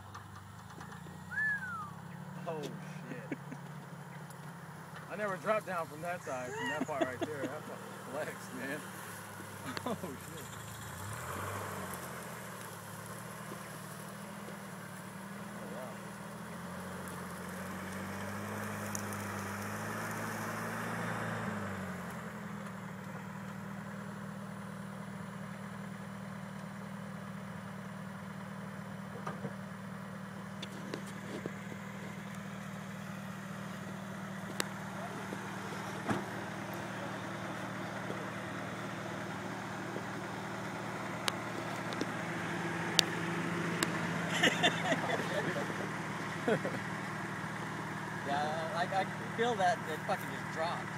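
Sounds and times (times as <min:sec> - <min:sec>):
engine running at low crawl: 0:00.0 - 0:50.9.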